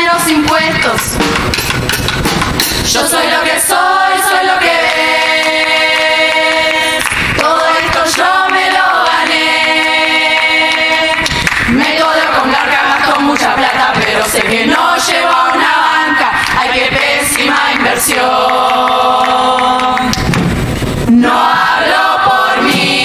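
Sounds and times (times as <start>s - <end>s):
percussive hits: 0.0s - 3.6s, 4.6s - 23.0s
women's chorus singing harmony: 2.8s - 20.3s, 21.1s - 23.0s.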